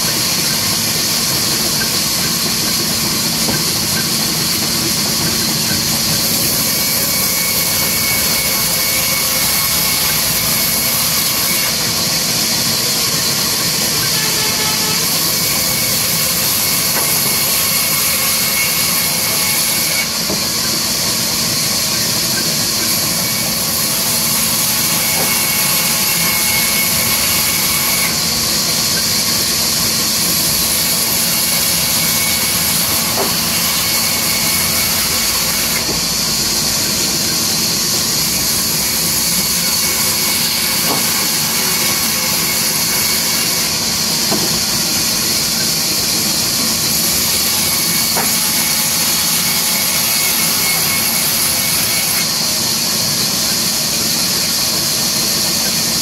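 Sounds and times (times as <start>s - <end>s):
band saw cutting hiss: 0.0s - 56.0s.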